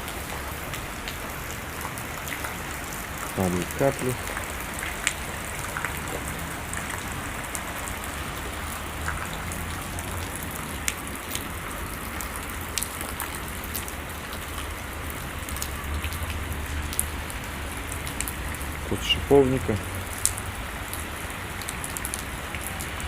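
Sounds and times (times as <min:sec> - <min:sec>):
raindrops ticking close by: 0:00.0 - 0:23.0
steady rain: 0:00.0 - 0:23.0.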